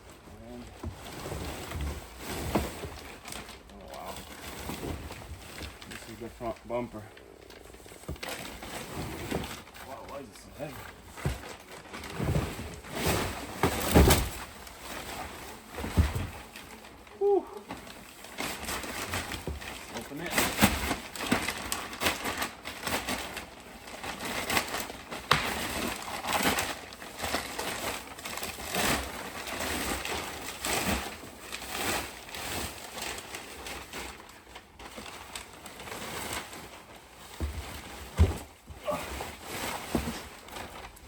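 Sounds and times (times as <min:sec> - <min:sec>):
packaging rustling and tearing: 0:00.4 - 0:41.0.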